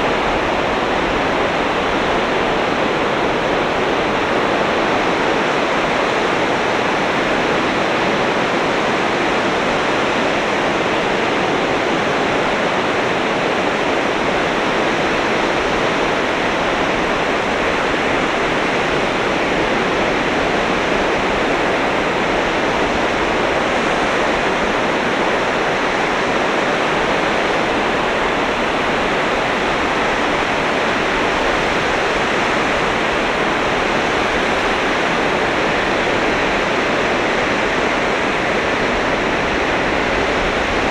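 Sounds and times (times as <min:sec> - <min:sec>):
waves breaking on shore: 0:00.0 - 0:40.9.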